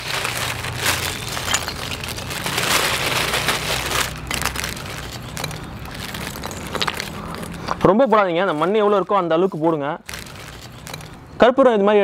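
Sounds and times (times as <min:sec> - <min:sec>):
charcoal crunching and clinking: 0:00.0 - 0:11.2
plastic glove crinkling: 0:00.0 - 0:11.2.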